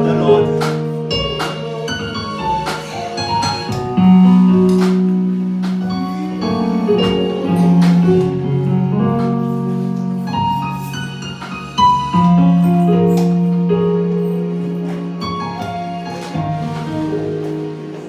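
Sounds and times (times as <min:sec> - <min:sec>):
soft keyboard music: 0:00.0 - 0:18.0.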